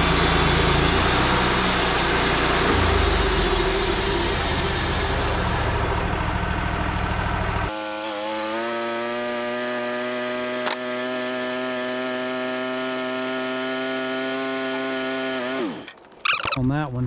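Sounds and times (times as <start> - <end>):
band sawmill whine: 0.0 - 16.0.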